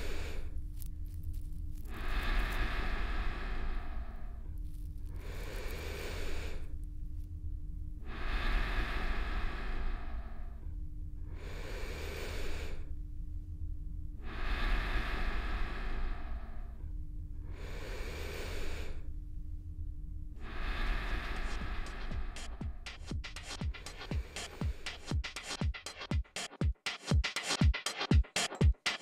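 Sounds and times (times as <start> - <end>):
steady low rumble: 0.0 - 25.6
slow close breathing: 0.0 - 26.0.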